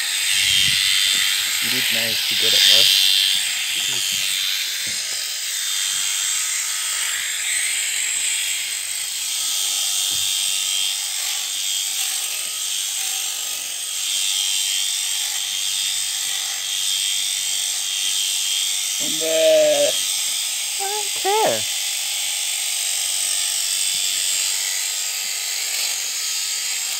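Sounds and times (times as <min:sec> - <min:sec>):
electric sheep shears whirring: 0:00.0 - 0:26.9.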